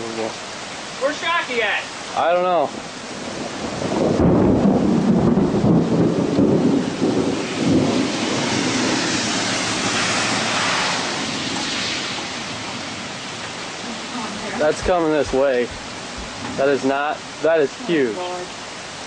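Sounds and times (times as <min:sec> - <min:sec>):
rain: 0:00.0 - 0:19.0
strong storm wind: 0:02.6 - 0:18.4.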